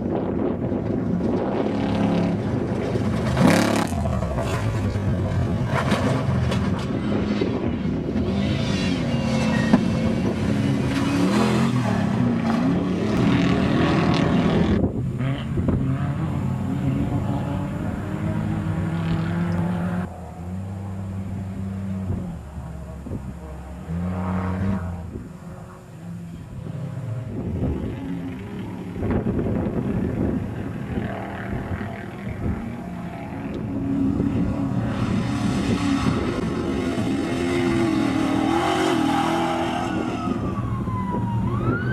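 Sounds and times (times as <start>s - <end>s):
race truck engines revving: 0.0s - 41.9s.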